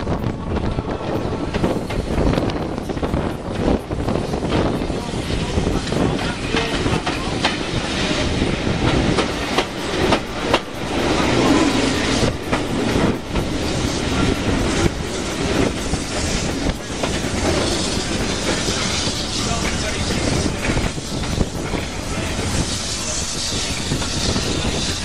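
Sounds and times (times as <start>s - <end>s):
train running noise: 0.0s - 25.0s.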